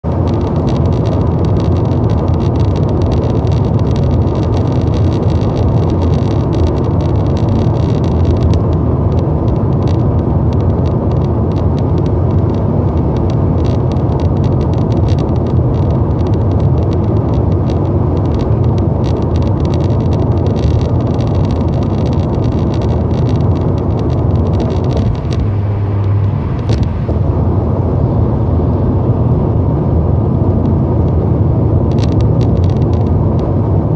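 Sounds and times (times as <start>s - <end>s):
car cabin road rumble: 0.0s - 33.9s.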